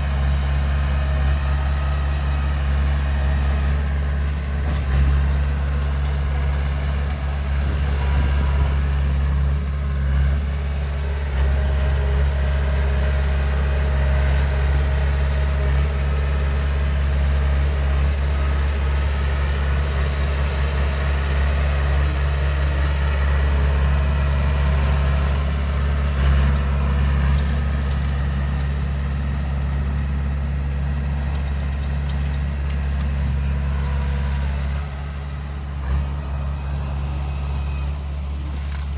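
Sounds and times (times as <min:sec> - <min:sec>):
heavy diesel engine humming: 0:00.0 - 0:38.9.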